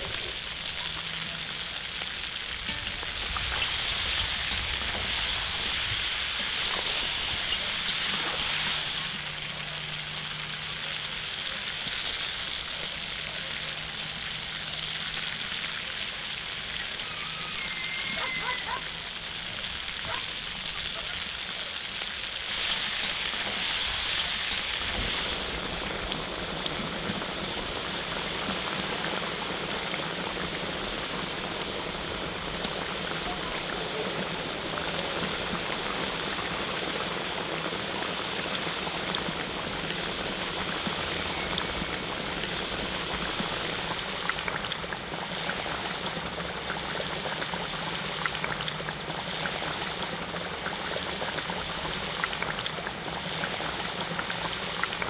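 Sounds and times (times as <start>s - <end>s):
liquid bubbling at the boil: 0.0s - 55.0s
meat sizzling in a pot: 0.0s - 55.0s.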